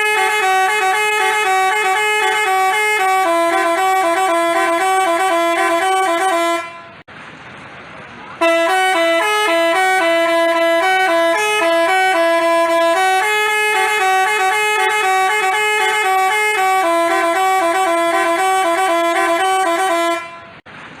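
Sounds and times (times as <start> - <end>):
multi-tone horn playing a tune: 0.0 - 7.0, 8.4 - 20.6.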